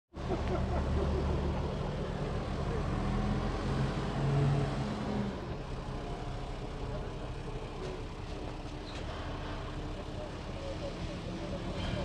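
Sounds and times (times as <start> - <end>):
diesel tractor engine running: 0.2 - 12.0.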